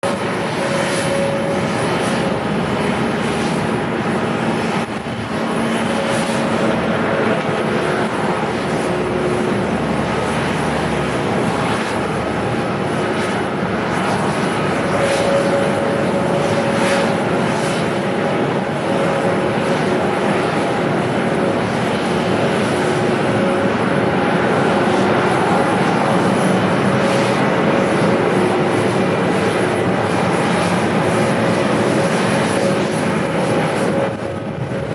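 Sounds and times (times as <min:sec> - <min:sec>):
airliner engines drone: 0:00.0 - 0:34.9.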